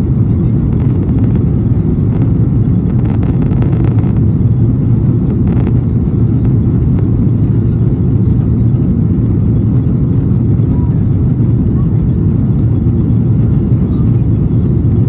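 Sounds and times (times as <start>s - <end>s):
airflow: 0.0s - 15.0s
airplane cabin engine roar: 0.0s - 15.0s.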